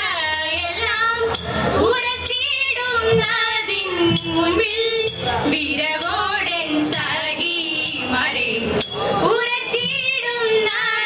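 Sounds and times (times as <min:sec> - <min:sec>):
women singing: 0:00.0 - 0:11.0.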